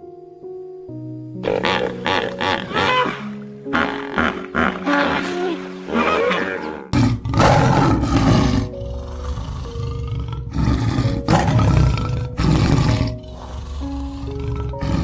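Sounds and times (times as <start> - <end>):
background music: 0.0 - 15.0
lion roaring: 1.4 - 15.0.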